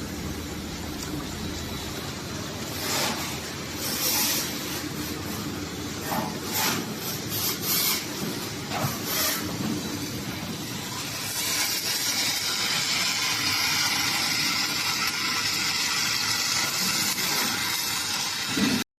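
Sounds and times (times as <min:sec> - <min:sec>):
welding arc crackling and hissing: 0:00.0 - 0:18.8.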